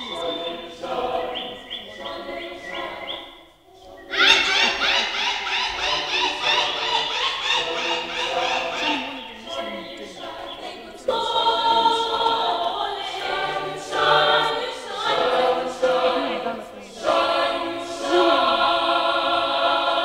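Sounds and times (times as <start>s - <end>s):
choir singing a cappella: 0.0s - 20.0s.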